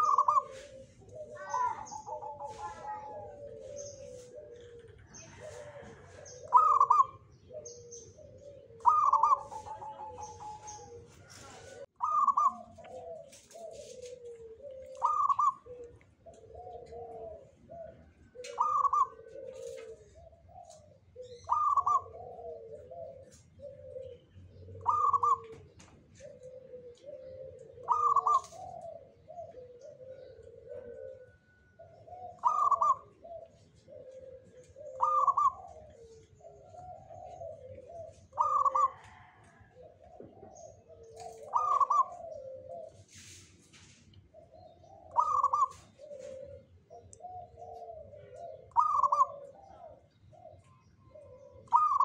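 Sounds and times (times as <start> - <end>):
dove cooing: 0.0 - 52.0.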